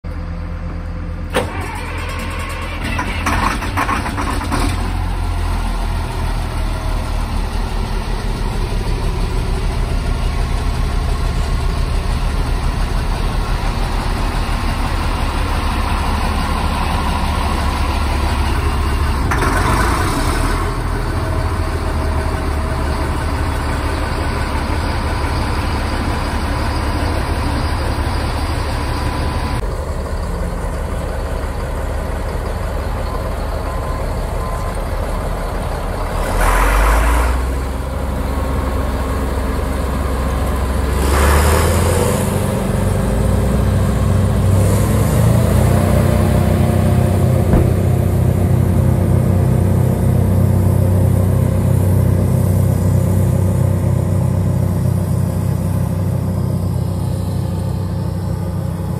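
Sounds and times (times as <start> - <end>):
diesel engine deep rumble: 0.0 - 58.9.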